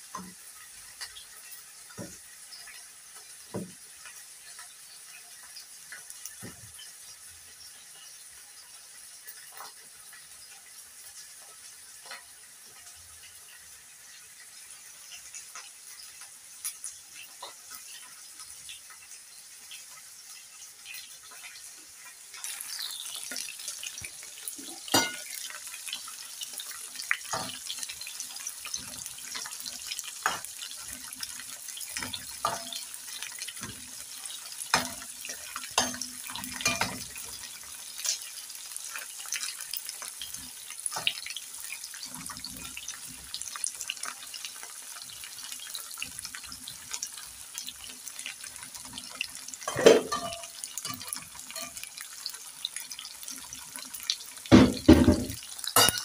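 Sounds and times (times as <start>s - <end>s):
fish sizzling in hot oil: 0.0s - 56.0s
oil crackling and popping: 0.0s - 56.0s.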